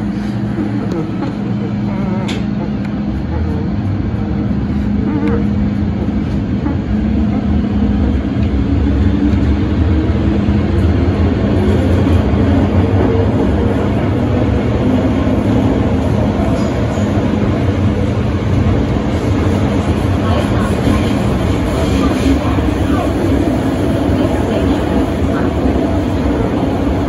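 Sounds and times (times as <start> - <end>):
train rumbling in tunnel: 0.0 - 27.0.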